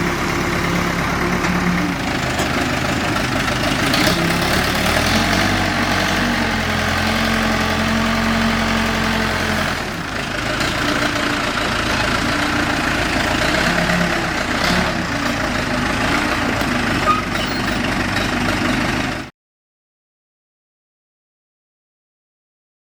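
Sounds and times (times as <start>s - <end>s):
diesel engine running: 0.0s - 19.3s.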